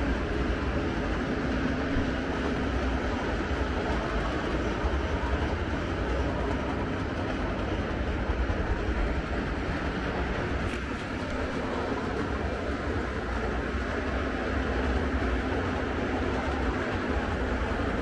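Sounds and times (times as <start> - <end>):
model trains rumbling: 0.0 - 18.0.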